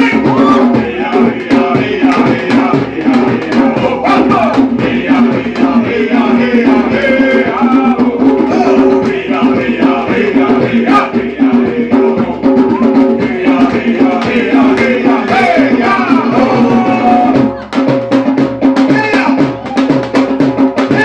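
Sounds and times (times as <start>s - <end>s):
group singing: 0.0s - 21.0s
hand drums beating: 0.0s - 21.0s.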